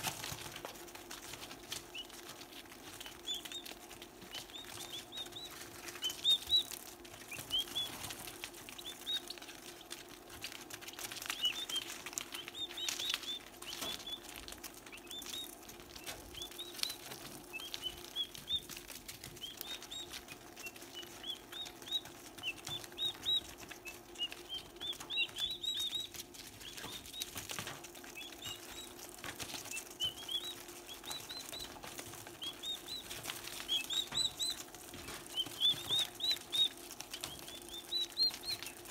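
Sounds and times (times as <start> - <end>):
sharp pecking ticks: 0.0 - 38.9
turkey poults peeping: 0.0 - 38.9.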